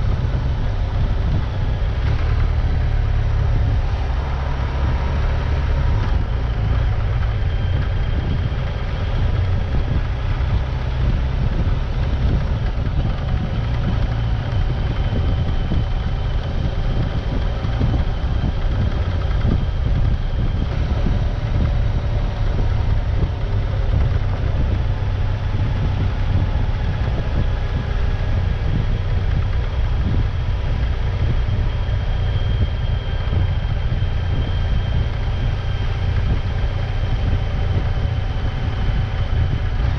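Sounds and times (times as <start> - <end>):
road and wind noise: 0.0 - 39.9
vehicle engine rumble: 0.0 - 39.9.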